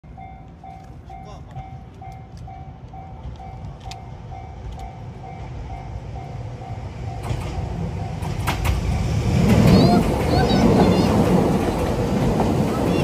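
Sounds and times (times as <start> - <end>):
electric train rumble: 0.0 - 13.0
train wheels clicking: 0.4 - 13.0.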